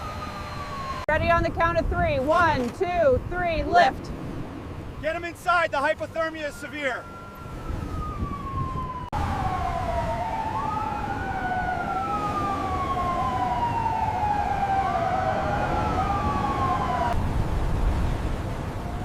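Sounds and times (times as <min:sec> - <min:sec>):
emergency siren wailing: 0:00.0 - 0:01.2, 0:04.8 - 0:19.0.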